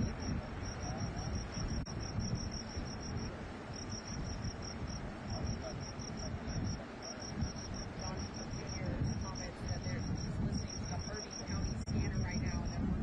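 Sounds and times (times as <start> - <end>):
cricket chirping: 0.0 - 12.9
low rumble of gas fire: 0.0 - 13.0.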